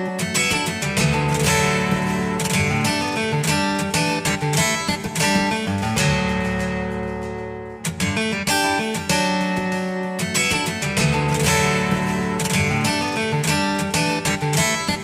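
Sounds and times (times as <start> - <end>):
ringtone melody on guitar: 0.0 - 15.0.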